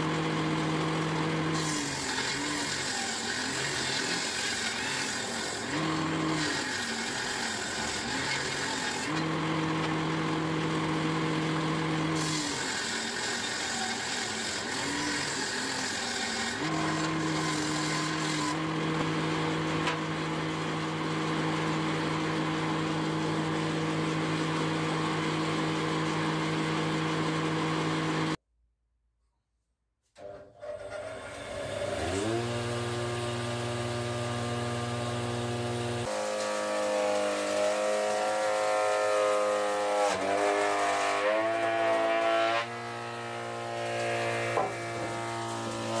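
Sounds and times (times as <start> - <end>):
table saw cutting wood: 0.0 - 28.4, 30.2 - 46.0.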